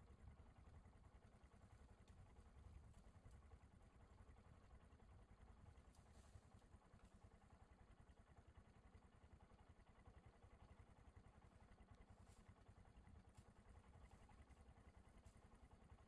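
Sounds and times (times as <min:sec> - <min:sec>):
faint low rumble: 0:00.0 - 0:16.0.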